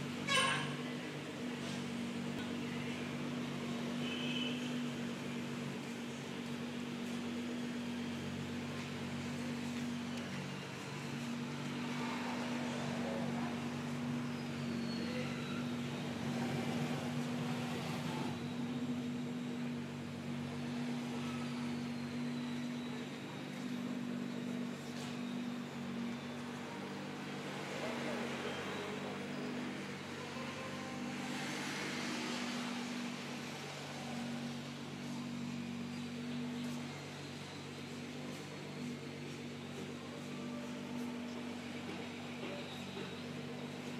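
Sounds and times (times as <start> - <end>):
low machine hum: 0.0 - 43.9.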